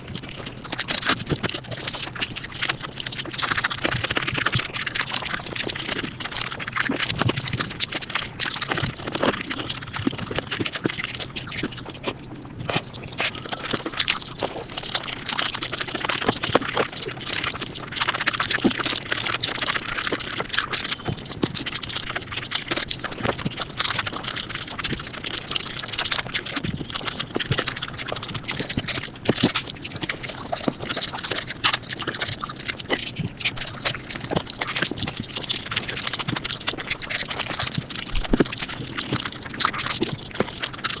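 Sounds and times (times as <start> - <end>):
sped-up chewing clicks and crackles: 0.0 - 41.0.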